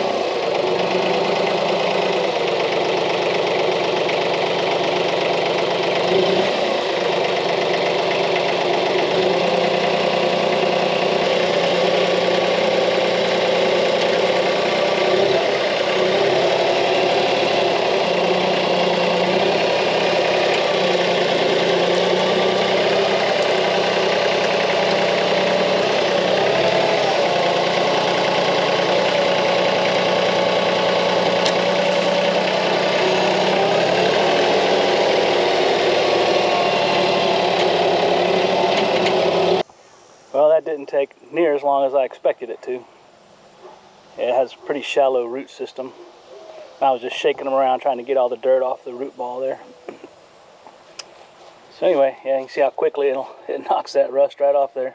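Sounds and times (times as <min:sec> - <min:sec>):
tractor diesel engine running: 0:00.0 - 0:39.7, 0:40.4 - 0:50.0.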